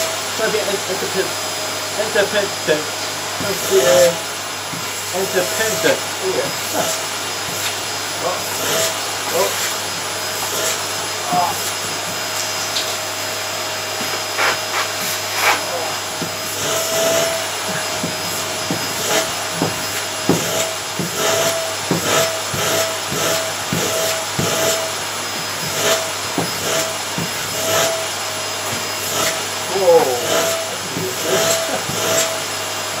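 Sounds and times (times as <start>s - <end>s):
vacuum cleaner whining: 0.0s - 33.0s.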